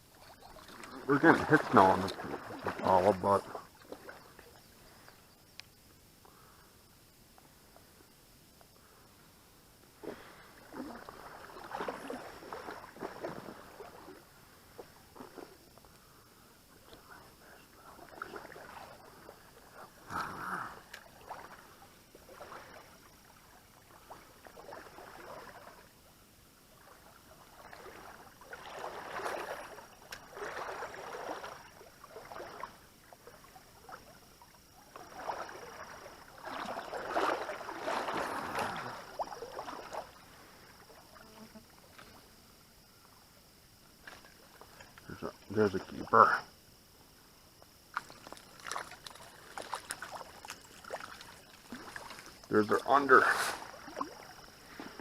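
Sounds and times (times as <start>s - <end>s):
water splashing and sloshing: 0.0s - 6.7s, 7.3s - 55.0s.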